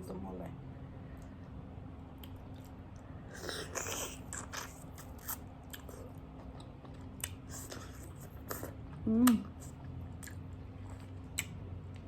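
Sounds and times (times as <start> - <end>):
person chewing food: 2.1 - 12.0.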